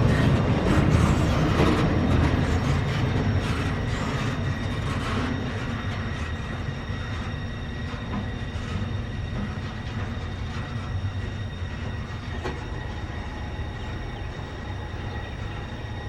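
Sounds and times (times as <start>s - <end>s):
train cars rolling on track: 0.0s - 16.0s.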